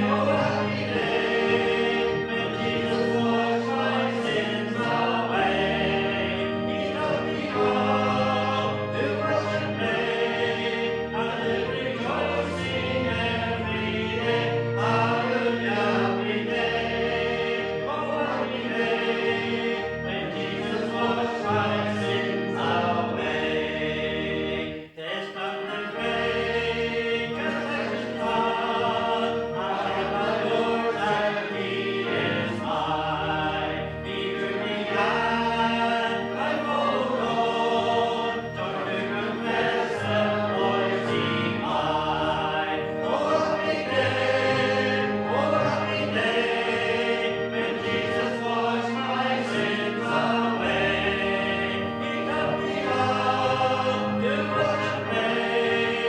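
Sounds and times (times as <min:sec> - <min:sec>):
congregation singing a hymn: 0:00.0 - 0:56.0
low musical accompaniment: 0:00.0 - 0:56.0.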